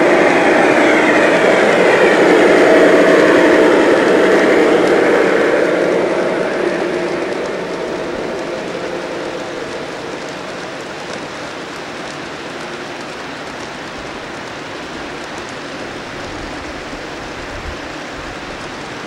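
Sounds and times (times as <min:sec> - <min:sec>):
model train wheels hissing on rail: 0:00.0 - 0:19.0.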